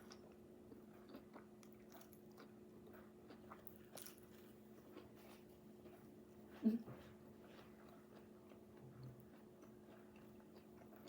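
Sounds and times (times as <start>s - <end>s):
faint chewing: 0.0s - 11.0s
low steady hum: 0.0s - 11.0s.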